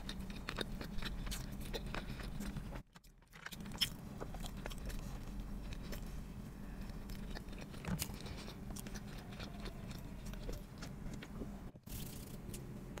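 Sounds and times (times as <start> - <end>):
chewing bread bun: 0.0 - 12.2.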